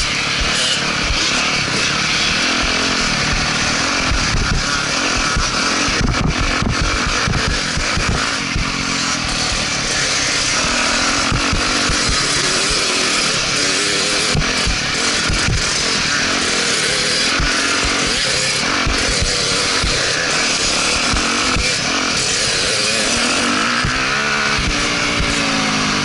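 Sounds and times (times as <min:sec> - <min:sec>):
dirt bike engines running: 0:00.0 - 0:26.0.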